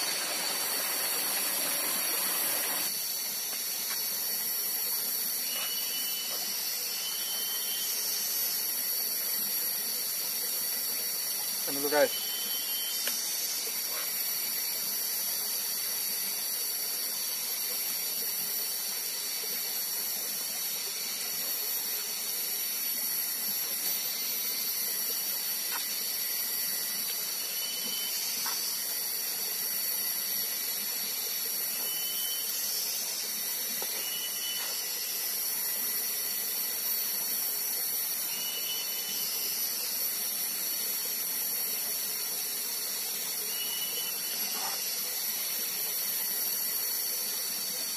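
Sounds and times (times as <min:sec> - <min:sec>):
steady high hiss: 0:00.0 - 0:47.9.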